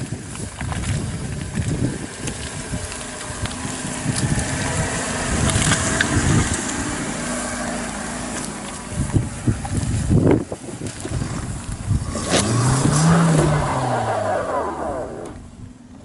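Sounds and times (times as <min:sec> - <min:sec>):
car engine at low revs: 0:00.0 - 0:16.0.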